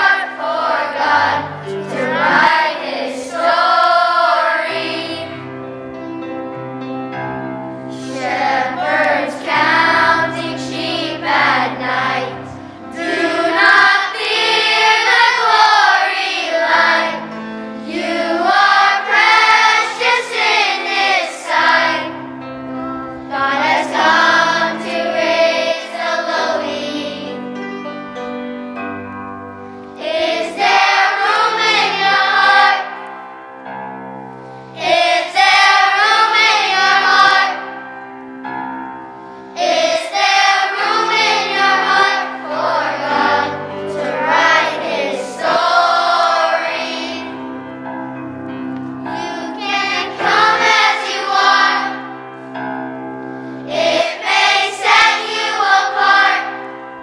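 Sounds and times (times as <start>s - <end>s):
children's choir singing: 0.0s - 5.8s, 7.1s - 27.7s, 29.8s - 34.0s, 34.6s - 38.5s, 39.3s - 57.0s
instrumental accompaniment: 0.0s - 57.0s.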